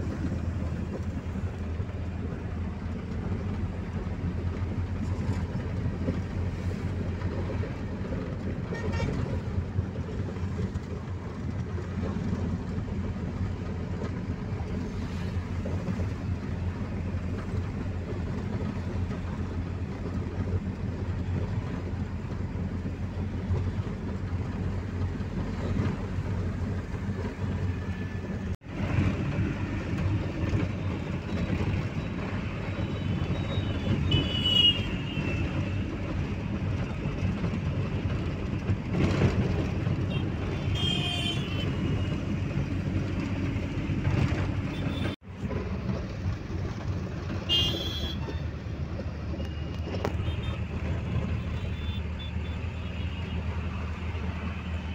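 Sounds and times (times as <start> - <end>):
car road and engine rumble: 0.0 - 54.9.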